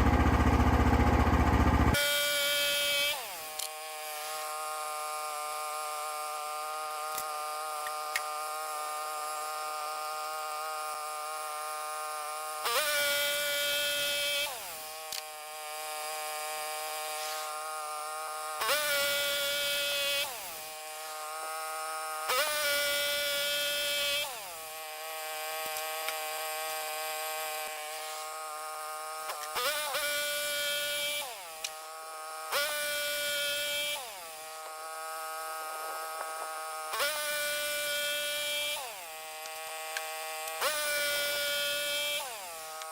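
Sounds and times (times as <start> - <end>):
power tool motor running: 0.0 - 42.9.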